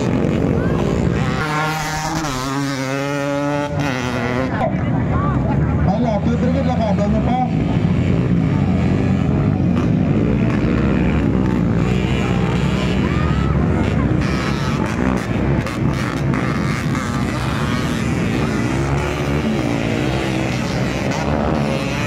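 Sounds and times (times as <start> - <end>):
dirt bike engines revving: 0.0 - 22.0
people's voices: 0.0 - 22.0.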